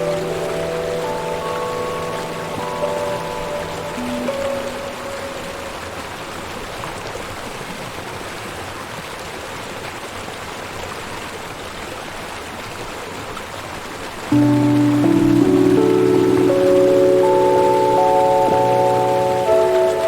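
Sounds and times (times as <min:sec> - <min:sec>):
rush of flowing water: 0:00.0 - 0:20.0.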